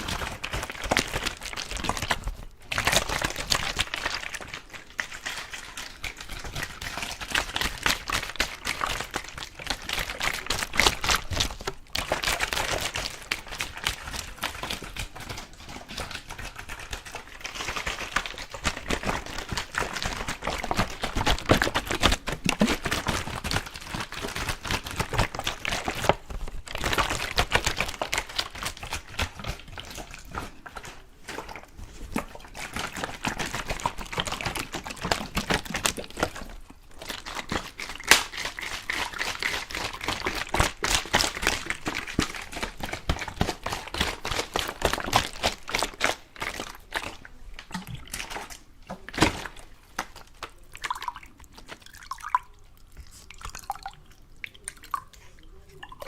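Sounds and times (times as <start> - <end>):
wet water clicks and crackles: 0.0 - 56.0.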